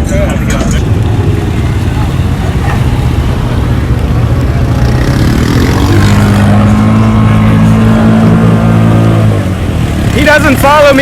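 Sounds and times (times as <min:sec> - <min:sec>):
off-road vehicle engine revving: 0:00.3 - 0:11.0.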